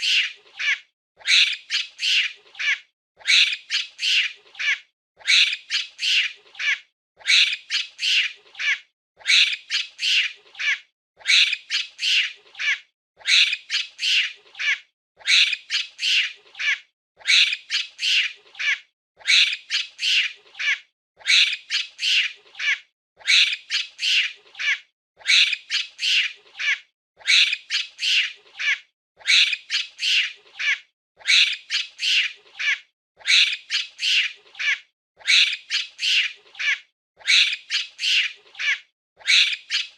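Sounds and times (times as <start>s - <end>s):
monkey chattering calls: 0.0s - 39.9s.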